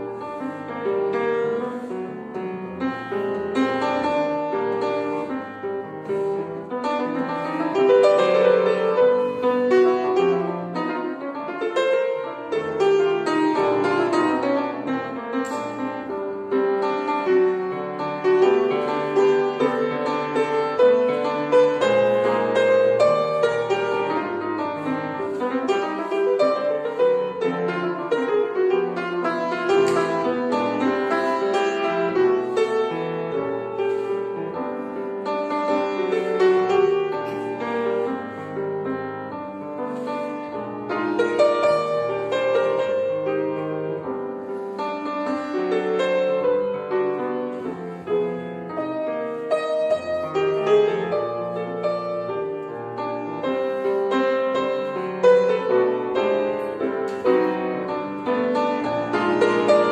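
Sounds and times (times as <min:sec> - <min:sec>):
jazz piano ballad: 0:00.0 - 0:59.9.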